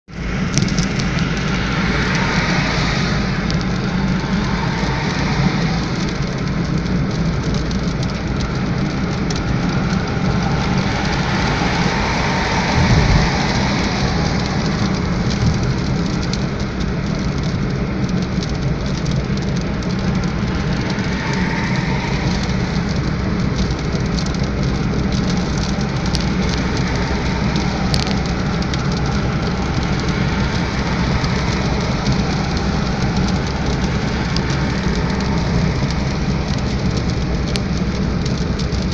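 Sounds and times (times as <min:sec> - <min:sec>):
car driving through rain: 0:00.0 - 0:38.9
raindrops tapping: 0:00.1 - 0:38.9
steady rain: 0:00.1 - 0:38.9.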